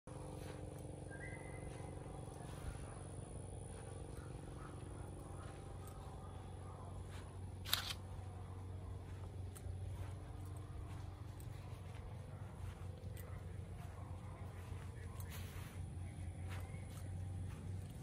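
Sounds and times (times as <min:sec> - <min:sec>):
low mechanical hum: 0:00.1 - 0:18.0.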